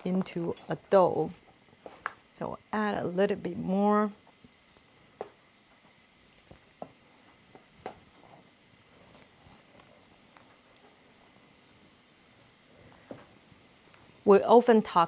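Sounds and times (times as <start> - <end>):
quiet room hiss: 0.0 - 15.0.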